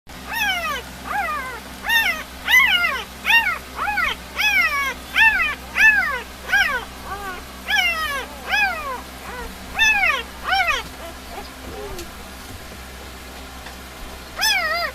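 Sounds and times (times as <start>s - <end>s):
puppy squealing: 0.2s - 12.2s, 14.4s - 14.9s.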